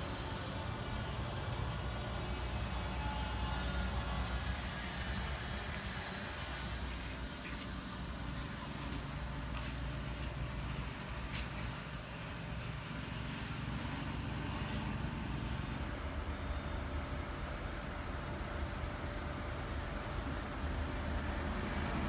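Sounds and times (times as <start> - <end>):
low rumble of machinery: 0.0 - 22.0.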